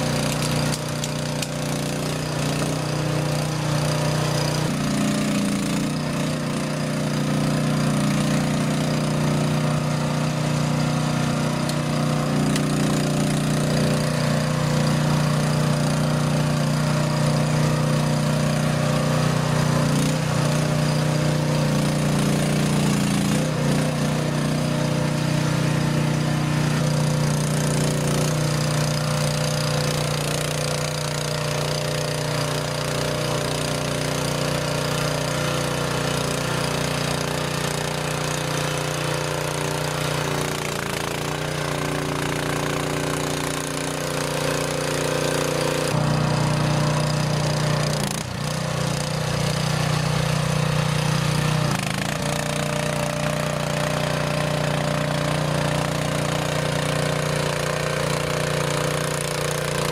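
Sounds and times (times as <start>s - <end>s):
mini dumper engine running: 0.0s - 59.9s.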